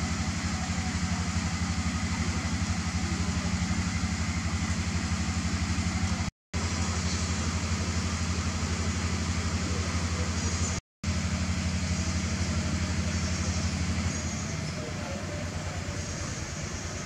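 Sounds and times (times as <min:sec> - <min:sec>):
engine idling with low throb: 0:00.0 - 0:17.0.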